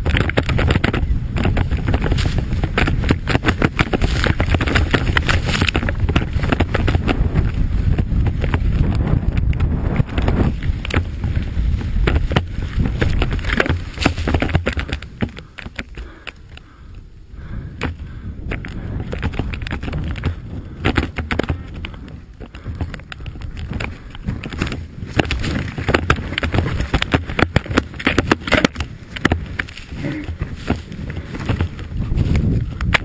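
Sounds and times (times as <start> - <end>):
knocks and rattles: 0.0 - 16.0, 17.8 - 33.0
wind on microphone: 0.0 - 33.0.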